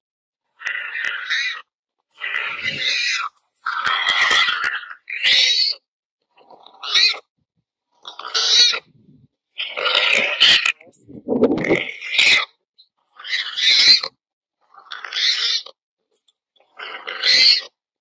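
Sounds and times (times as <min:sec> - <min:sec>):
warthog distress squeals: 0:00.5 - 0:07.3, 0:08.0 - 0:14.2, 0:14.8 - 0:15.8, 0:16.6 - 0:17.8.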